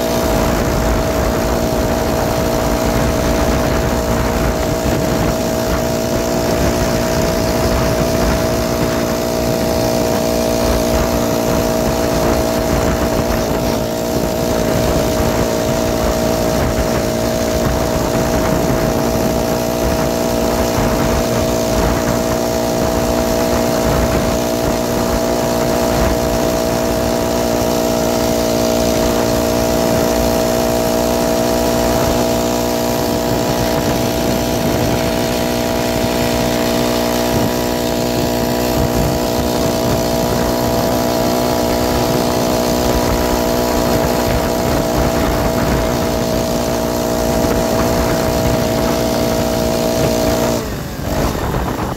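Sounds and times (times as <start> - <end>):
small engine running: 0.0 - 51.9
wind buffeting microphone: 0.0 - 51.9.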